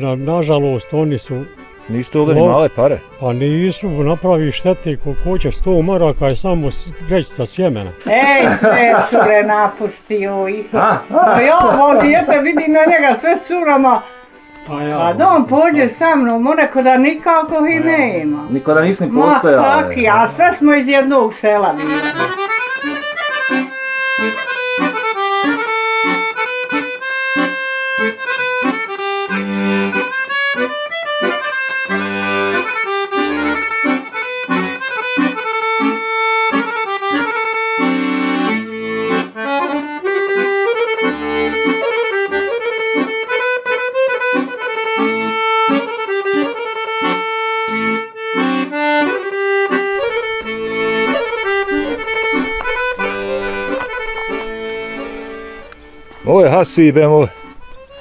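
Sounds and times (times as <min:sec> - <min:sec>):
accordion music: 0:00.0 - 0:58.0.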